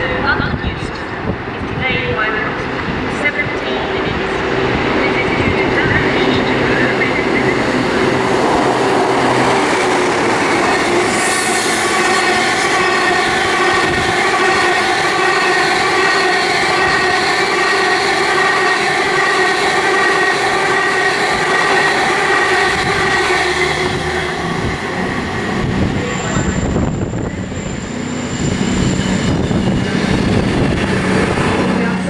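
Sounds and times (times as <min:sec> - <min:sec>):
rail and wheel noise: 0:00.0 - 0:32.0
train whine: 0:00.0 - 0:32.0.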